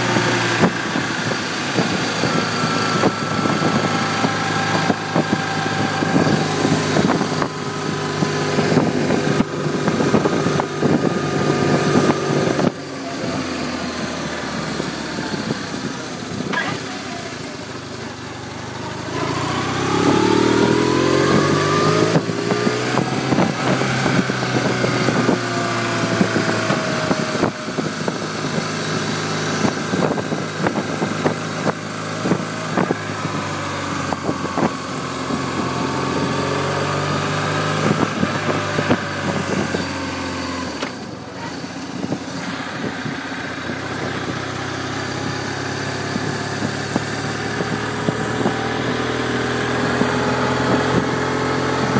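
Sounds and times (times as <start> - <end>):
wind rush: 0.0 - 16.6, 17.6 - 51.9
motorcycle engine accelerating: 0.0 - 51.9.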